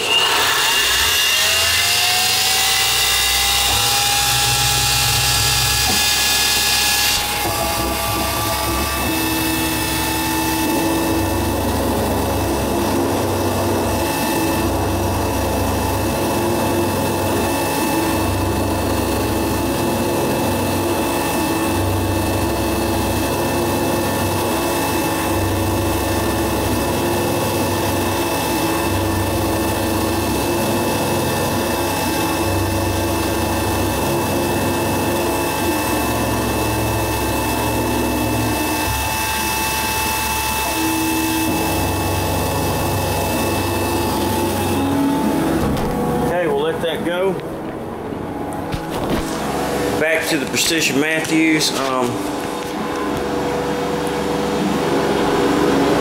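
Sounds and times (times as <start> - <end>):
low hum: 0.0 - 56.0
mill spindle whine: 0.0 - 56.0.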